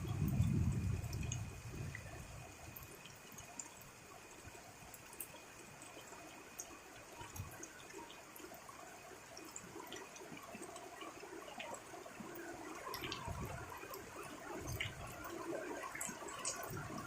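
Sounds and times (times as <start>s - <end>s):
raindrops ticking: 0.0s - 8.5s, 9.1s - 17.0s
steady rain: 0.0s - 17.0s.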